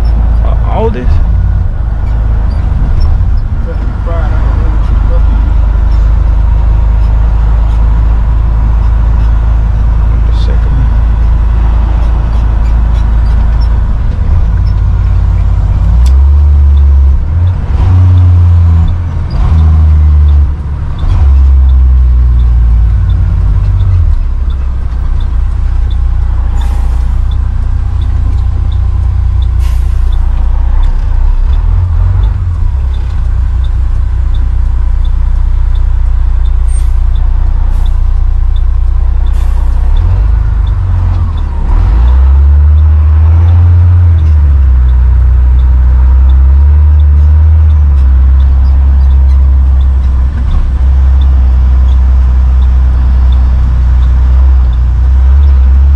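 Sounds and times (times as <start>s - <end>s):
light steady ticking: 0.0s - 55.9s
truck engine and road rumble: 0.0s - 55.9s.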